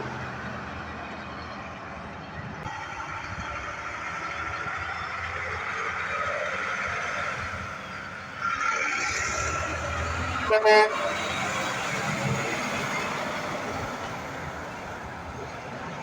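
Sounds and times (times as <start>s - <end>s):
truck passing: 0.0s - 16.0s.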